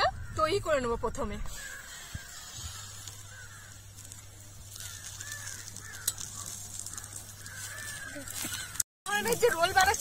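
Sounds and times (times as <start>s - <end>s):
birds calling faintly: 0.0s - 10.0s.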